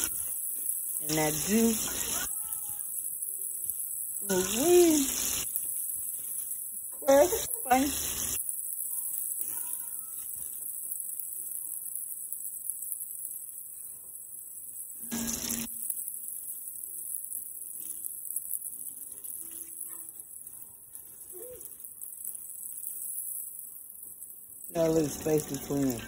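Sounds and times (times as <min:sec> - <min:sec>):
chicken deep-frying in hot oil: 0:00.0 - 0:26.0.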